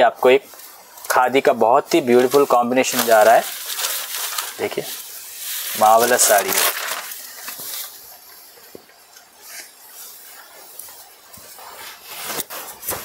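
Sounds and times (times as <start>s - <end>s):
fabric rustling and swishing: 0.2s - 13.0s.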